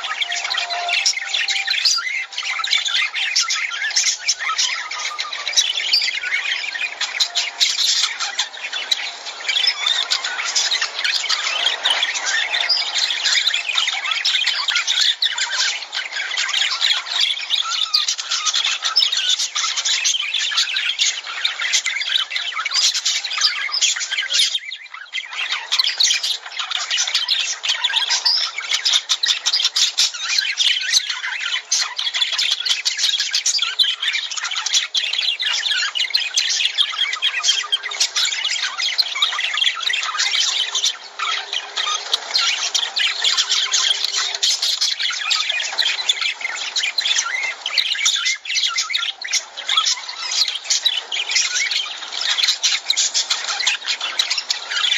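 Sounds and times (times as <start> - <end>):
lovebirds chattering and squawking: 0.0 - 54.9.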